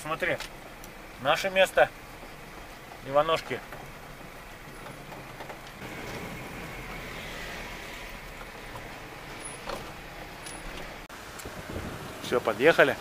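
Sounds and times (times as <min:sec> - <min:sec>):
tyres rolling over gravel: 0:00.1 - 0:11.1
car engine running: 0:00.1 - 0:12.2.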